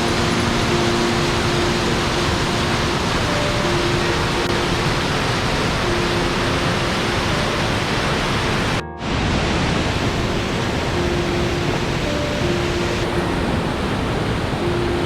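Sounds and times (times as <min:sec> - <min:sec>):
rush of fast-flowing water: 0:00.0 - 0:15.0.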